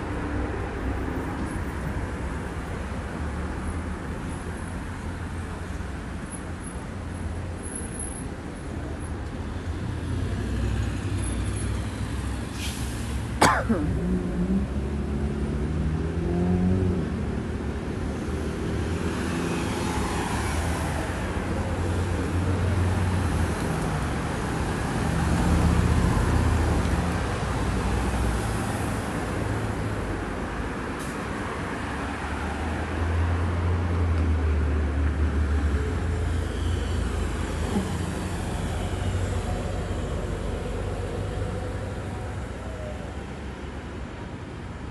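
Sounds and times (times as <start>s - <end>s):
low traffic rumble: 0.0s - 44.9s
cars passing: 8.7s - 44.9s.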